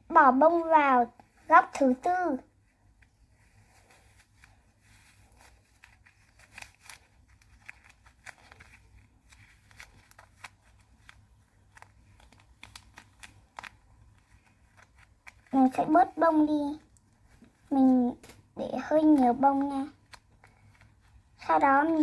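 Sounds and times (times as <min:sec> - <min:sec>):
paper and tape crinkling: 0:02.7 - 0:22.0.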